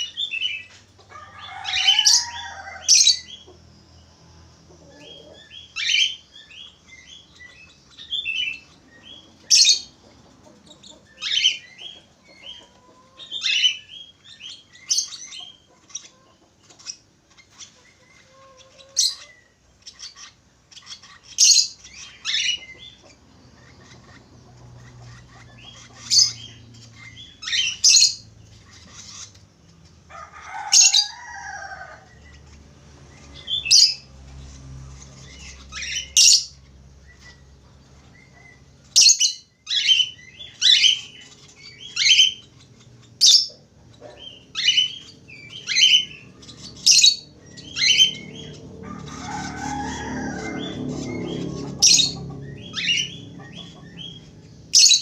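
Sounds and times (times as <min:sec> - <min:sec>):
budgerigars chirping and warbling: 0:00.0 - 0:55.0.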